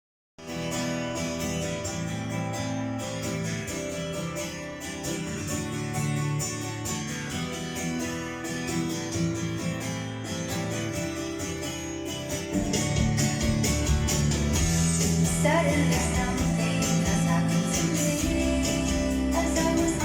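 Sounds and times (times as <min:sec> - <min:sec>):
strummed guitar music: 0:00.4 - 0:20.0.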